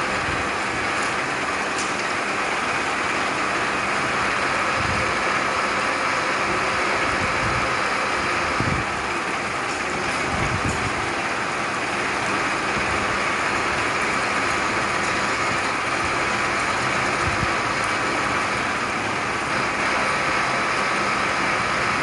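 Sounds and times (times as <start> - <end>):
drilling machine boring metal: 0.0 - 22.0.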